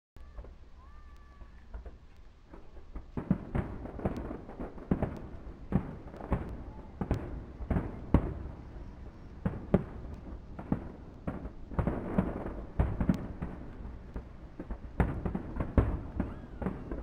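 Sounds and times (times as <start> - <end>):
firework shells bursting: 0.2 - 17.0.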